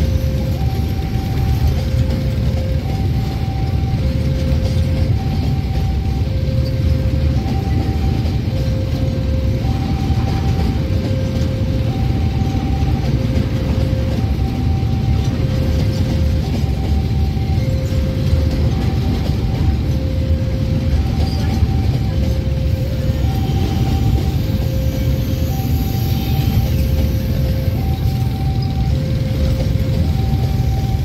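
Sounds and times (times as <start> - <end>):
freight wagons rumbling on rails: 0.0 - 31.0
level crossing alarm two tones: 0.0 - 31.0.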